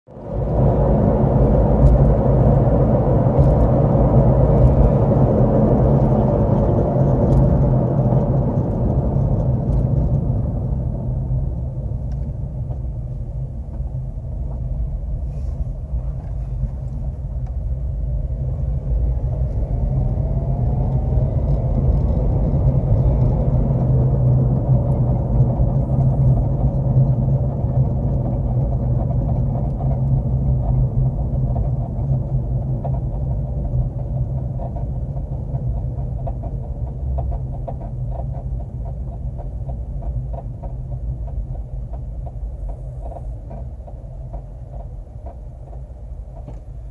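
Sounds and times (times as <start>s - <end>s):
car road and engine rumble: 0.1s - 46.9s.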